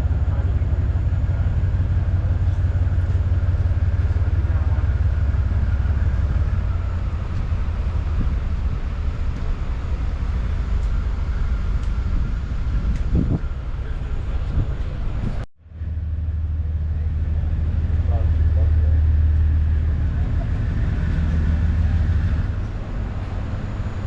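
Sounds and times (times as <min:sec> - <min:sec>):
diesel locomotive engine running: 0:00.0 - 0:24.0.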